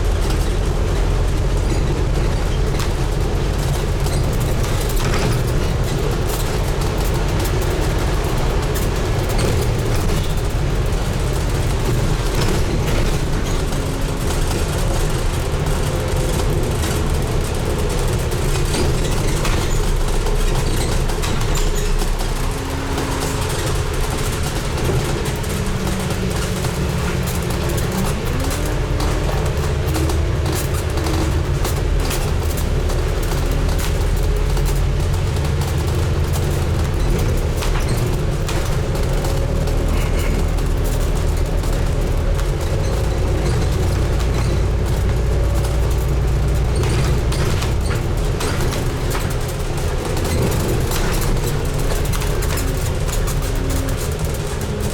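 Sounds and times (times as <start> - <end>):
bus engine and road rumble: 0.0 - 54.9.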